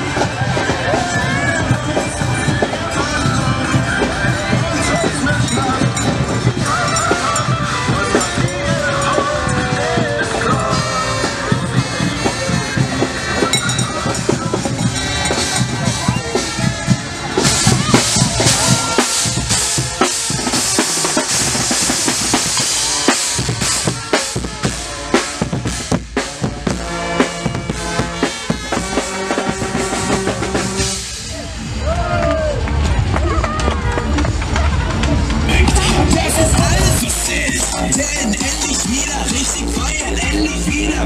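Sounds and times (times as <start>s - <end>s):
bass drum and snare beating: 0.0s - 41.0s.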